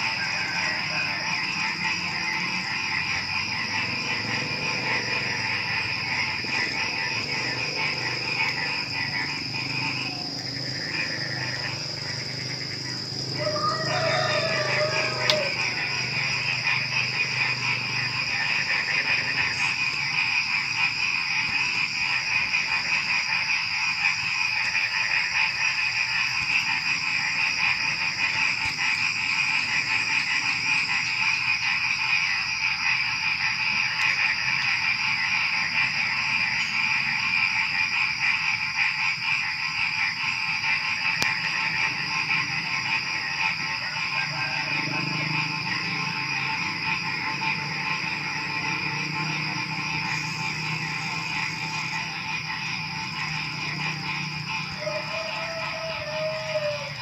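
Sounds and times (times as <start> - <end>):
crickets chirping: 0.0 - 57.0
frogs croaking: 0.0 - 57.0.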